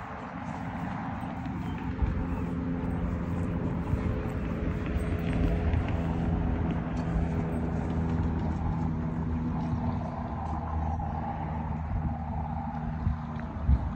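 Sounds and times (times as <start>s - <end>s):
high motor whine: 0.0s - 13.9s
motor running with rumble: 0.0s - 13.9s.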